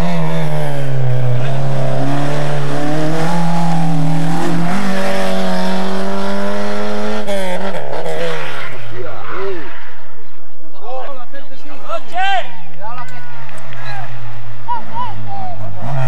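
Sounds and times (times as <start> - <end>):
rally car engine revving: 0.0 - 10.4, 13.1 - 16.0.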